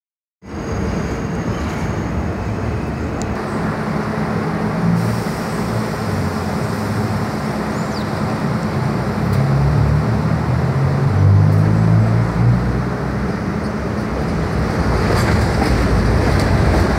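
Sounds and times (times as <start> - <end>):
subway train rumble and hum: 0.4 - 16.9.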